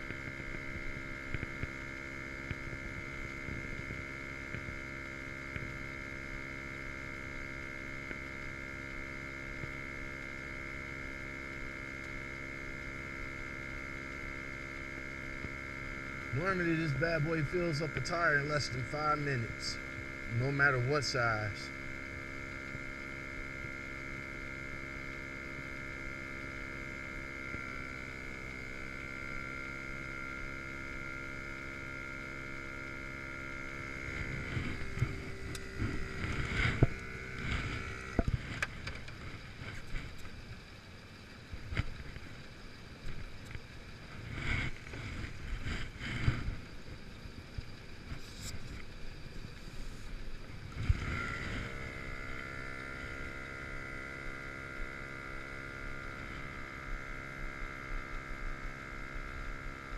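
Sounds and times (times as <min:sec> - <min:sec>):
air compressor humming: 0:00.0 - 0:59.9.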